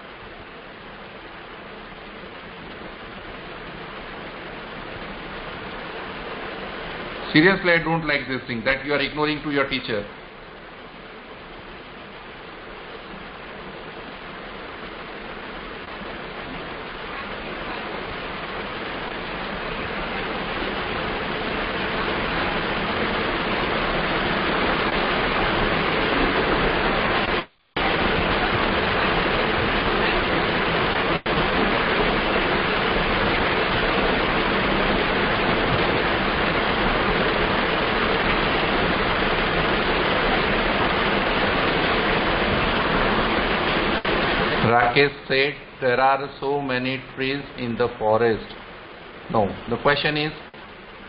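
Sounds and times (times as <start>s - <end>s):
loud rushing hiss: 0.0s - 51.0s.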